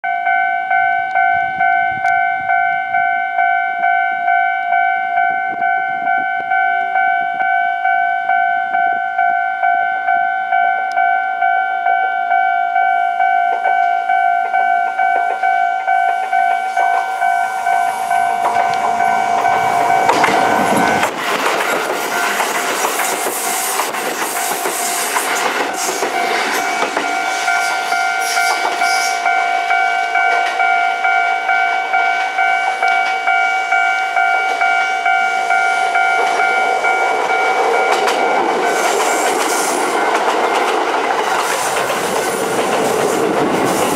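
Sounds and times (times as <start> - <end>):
level-crossing bell ringing: 0.0 - 22.8, 23.4 - 41.2
electric train passing: 0.1 - 43.9.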